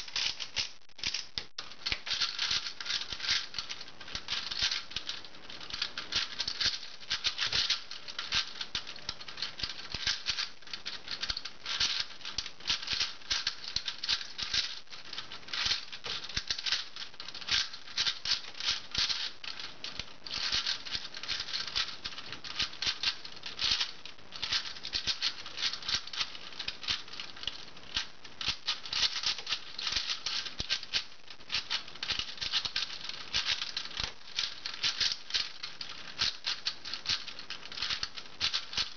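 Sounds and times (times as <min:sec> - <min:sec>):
puzzle cube plastic clicks: 0:00.0 - 0:38.9.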